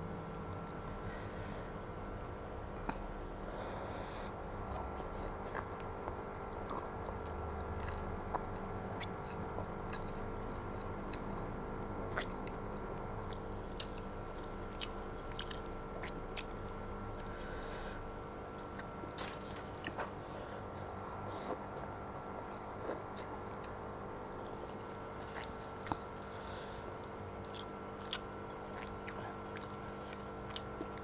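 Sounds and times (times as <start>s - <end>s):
steady hum: 0.0s - 31.0s
wet chewing and mouth smacks: 4.6s - 20.2s, 20.8s - 31.0s.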